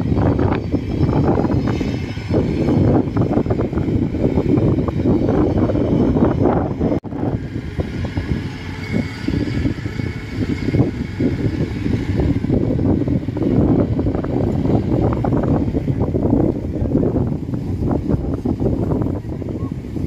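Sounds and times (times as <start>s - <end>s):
cart engine running: 0.0s - 20.0s
wind buffeting microphone: 0.0s - 20.0s.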